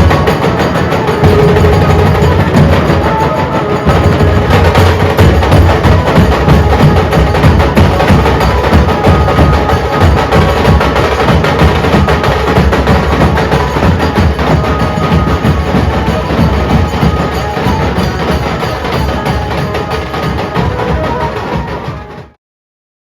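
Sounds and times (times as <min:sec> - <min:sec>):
drum group playing fast beat: 0:00.0 - 0:22.4.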